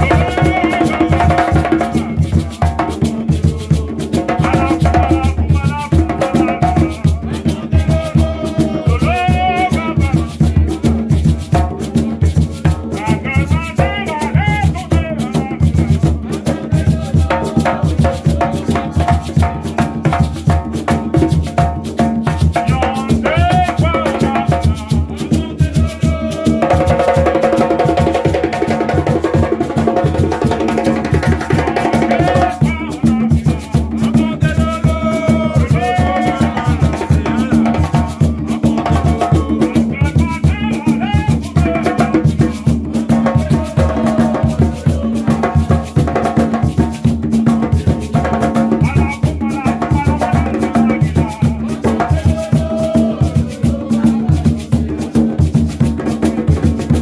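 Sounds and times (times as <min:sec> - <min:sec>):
man singing into microphone: 0:00.0 - 0:55.6
hand drums playing: 0:00.0 - 0:57.0
shaker rattling: 0:00.0 - 0:57.0.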